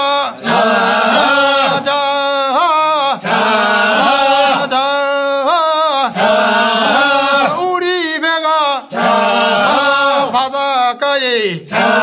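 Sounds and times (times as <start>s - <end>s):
men chanting a work song: 0.0s - 12.0s.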